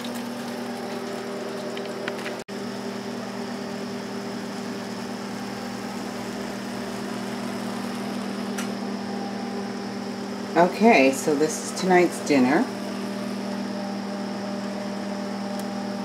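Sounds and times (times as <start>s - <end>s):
appliance fan motor humming: 0.0s - 16.0s.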